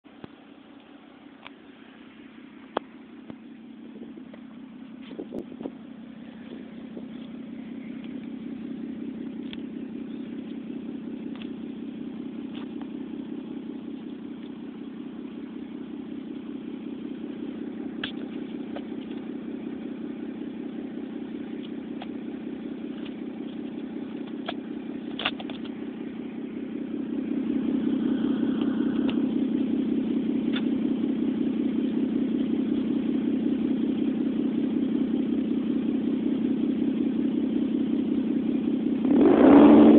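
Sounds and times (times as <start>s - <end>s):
car exhaust idling drone: 0.0s - 39.9s.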